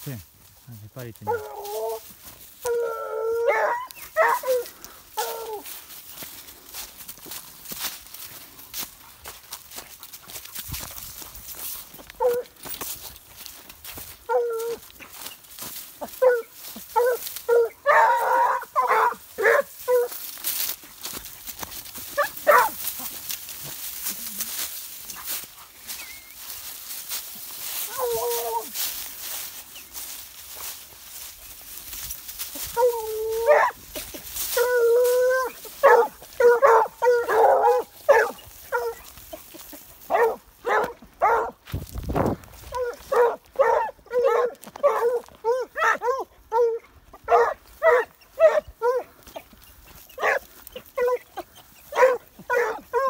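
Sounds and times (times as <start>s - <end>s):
dogs barking and yelping: 1.2s - 6.3s, 11.8s - 41.6s, 42.6s - 53.0s.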